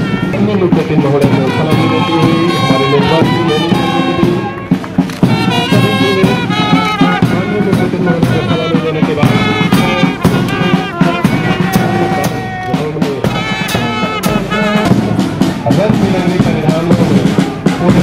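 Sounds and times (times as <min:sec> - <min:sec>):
brass band playing a march: 0:00.0 - 0:18.0
steady drum beat: 0:00.0 - 0:18.0.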